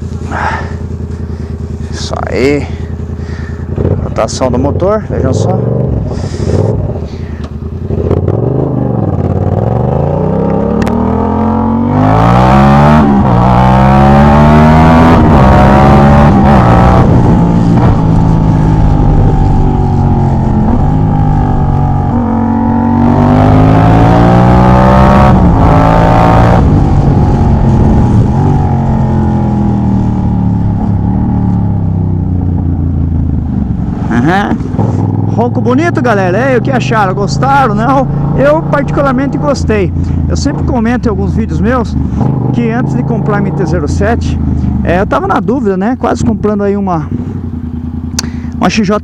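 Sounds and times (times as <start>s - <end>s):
motorcycle engine revving through gears: 0.0s - 45.6s.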